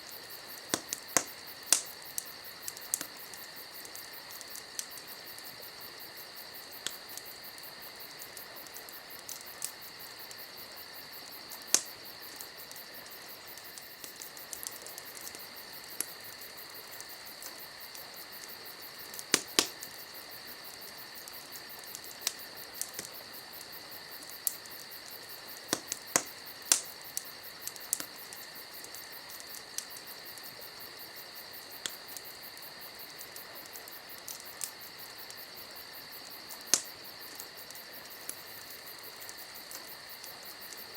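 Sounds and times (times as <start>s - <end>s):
campfire wood crackling: 0.0s - 40.9s
crickets chirping: 0.0s - 40.9s.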